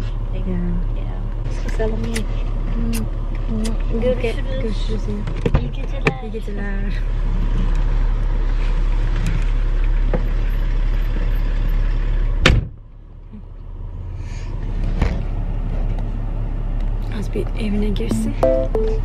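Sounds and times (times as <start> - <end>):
outside noise: 0.0 - 19.0.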